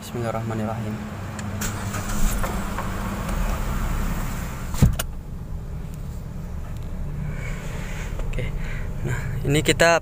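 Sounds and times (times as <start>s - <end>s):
car engine hum inside cabin: 0.0s - 10.0s.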